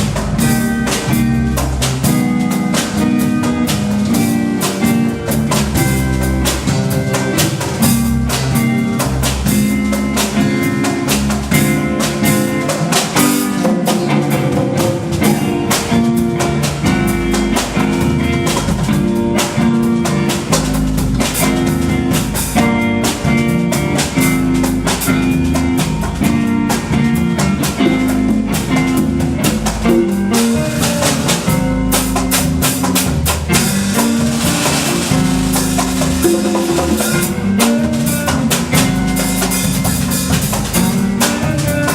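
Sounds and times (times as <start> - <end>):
drum kit beat: 0.0 - 41.9
guitar: 0.0 - 41.9.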